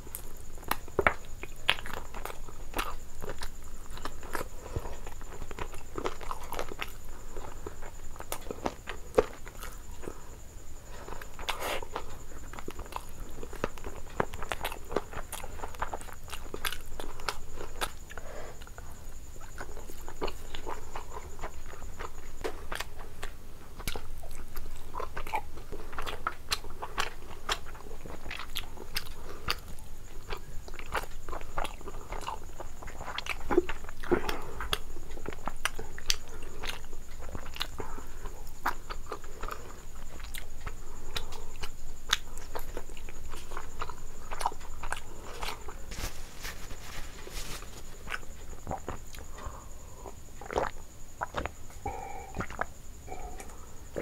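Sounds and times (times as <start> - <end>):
wet chewing and lip smacking: 0.1 - 10.2, 11.0 - 54.0.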